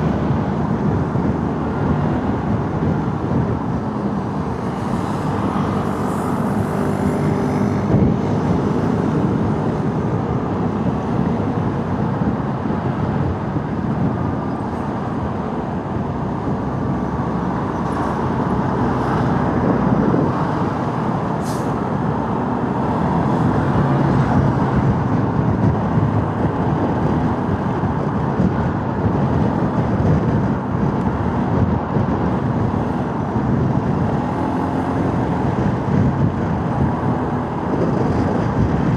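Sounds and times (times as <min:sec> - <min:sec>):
road and wind noise: 0:00.0 - 0:38.9
surrounding traffic: 0:00.0 - 0:38.9.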